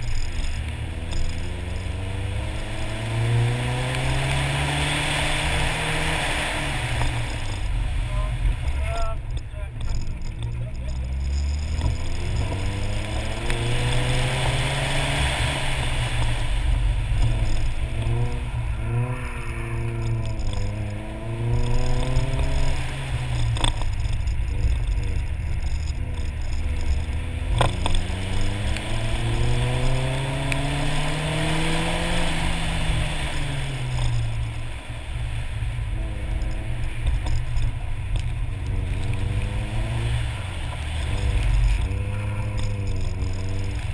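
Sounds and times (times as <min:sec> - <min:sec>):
car engine revving hard: 0:00.0 - 0:09.1, 0:10.7 - 0:43.9.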